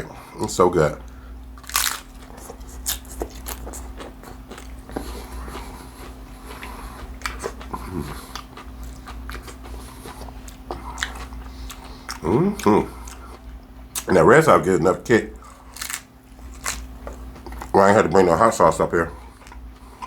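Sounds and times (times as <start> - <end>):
low steady hum: 0.0 - 20.0
crunchy chewing: 1.0 - 14.1, 15.4 - 17.8, 19.2 - 20.0.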